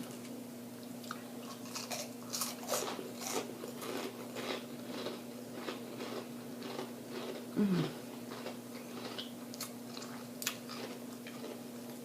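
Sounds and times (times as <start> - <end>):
person chewing crunchy food: 1.0 - 12.0.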